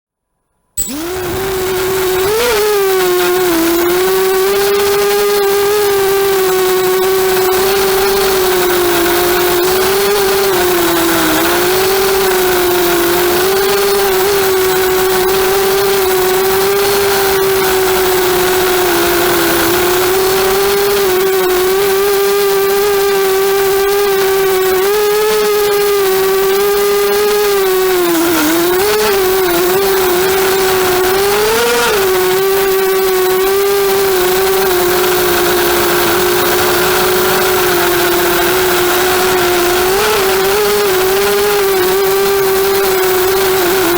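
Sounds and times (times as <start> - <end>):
quadcopter motors whining: 0.8 - 43.9.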